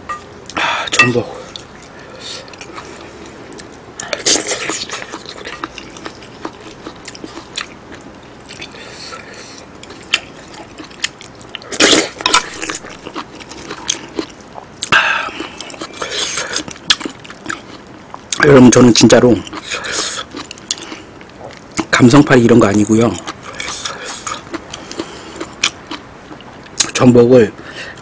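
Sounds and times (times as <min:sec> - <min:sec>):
close-miked chewing: 0:01.4 - 0:18.4, 0:19.2 - 0:22.0, 0:22.6 - 0:27.0.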